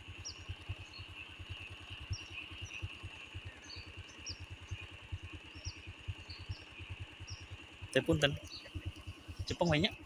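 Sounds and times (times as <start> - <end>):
high insect drone: 0.0 - 10.0
small engine idling: 0.0 - 10.0.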